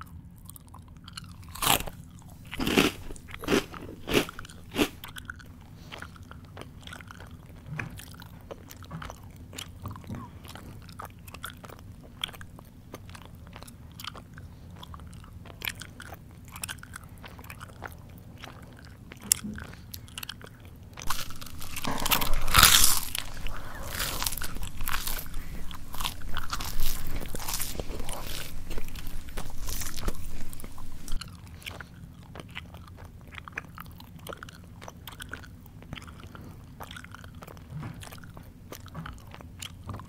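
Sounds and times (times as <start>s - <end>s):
person chewing with crunching: 0.0s - 40.0s.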